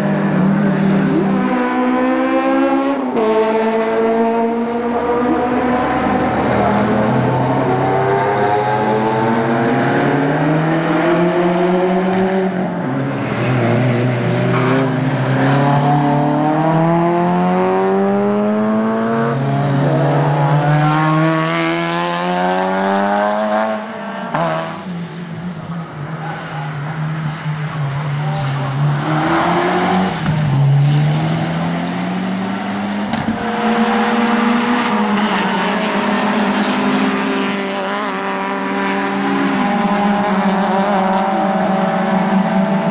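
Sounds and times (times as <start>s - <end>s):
race car engines accelerating: 0.0s - 42.9s.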